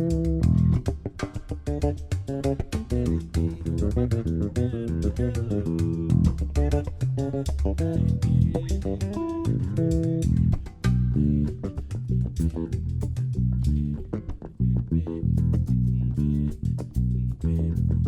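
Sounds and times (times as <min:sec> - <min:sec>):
hand percussion strikes: 0:00.0 - 0:14.5
bass guitar playing: 0:00.0 - 0:18.0.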